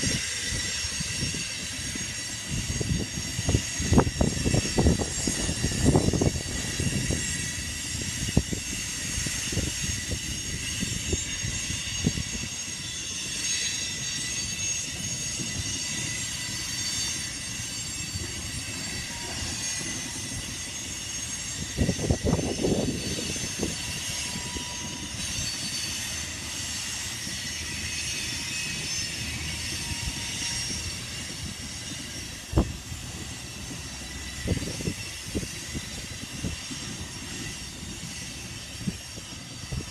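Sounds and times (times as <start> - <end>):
high wheel squeal: 0.0 - 39.9
train wheels rumbling on rail: 0.0 - 39.9.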